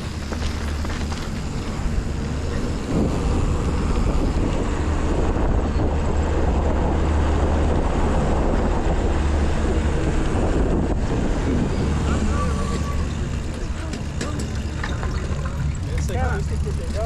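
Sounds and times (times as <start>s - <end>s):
bike tyres rolling on dirt: 0.0s - 8.2s, 9.4s - 17.0s
wind buffeting microphone: 0.0s - 17.0s.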